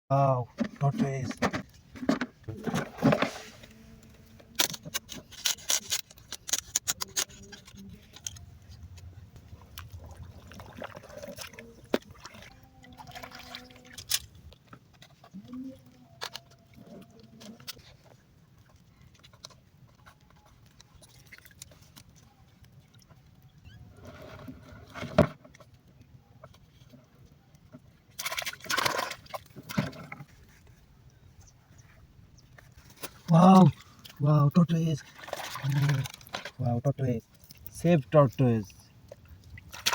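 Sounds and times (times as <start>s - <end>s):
water splashing and sloshing: 0.5s - 39.9s.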